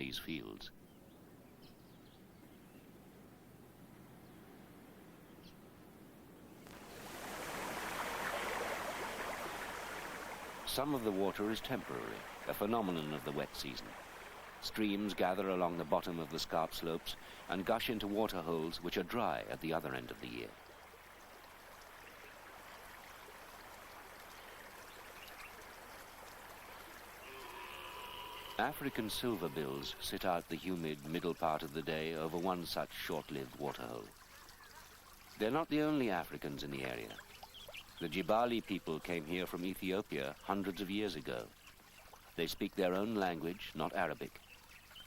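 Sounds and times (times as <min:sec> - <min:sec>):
stream water rushing: 0:06.7 - 0:45.0.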